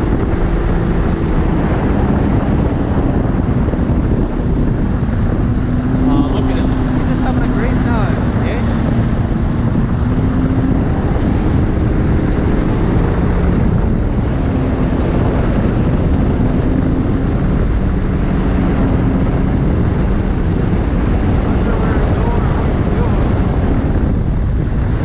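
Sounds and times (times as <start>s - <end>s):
hull rushing over water: 0.0s - 25.0s
jet ski engine running: 0.0s - 25.0s
wind noise on microphone: 0.0s - 25.0s.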